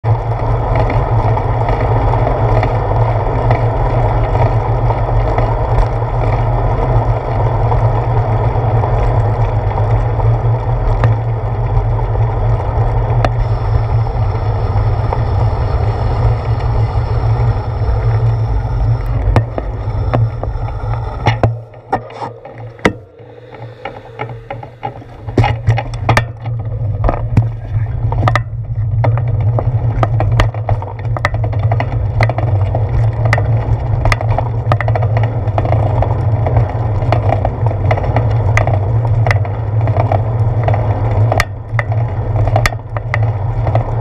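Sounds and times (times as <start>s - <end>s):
bicycle road rumble on concrete: 0.0s - 44.0s
wind: 0.0s - 44.0s.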